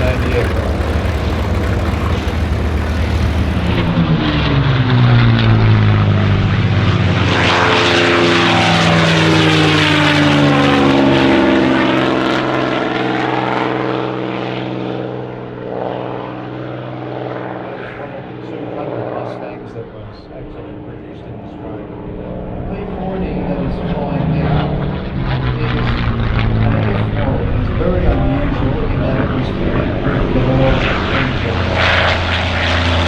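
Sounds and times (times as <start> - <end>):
propeller airplane flying past: 0.0 - 33.0.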